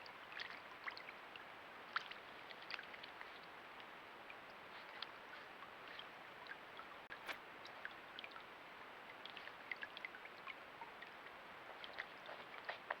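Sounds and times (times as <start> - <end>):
small wet clicks: 0.0 - 8.5, 9.1 - 13.0
running water hiss: 0.0 - 13.0.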